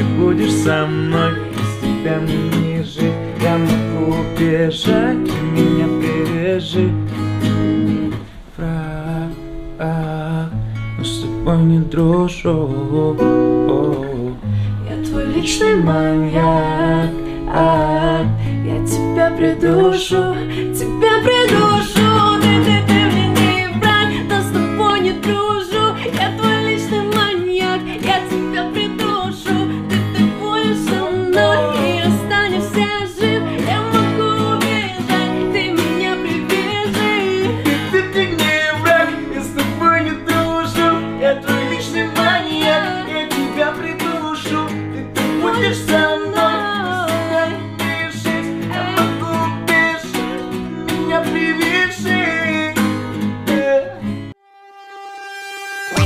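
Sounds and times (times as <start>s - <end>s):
person singing: 0.0s - 7.1s, 7.8s - 56.0s
acoustic guitar plucked and strummed: 0.0s - 56.0s.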